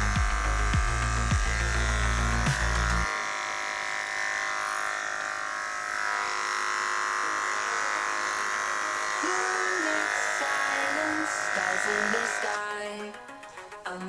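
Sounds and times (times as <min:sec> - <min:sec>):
background music: 0:00.0 - 0:04.4, 0:06.4 - 0:14.0
electric clipper buzzing: 0:00.0 - 0:13.6.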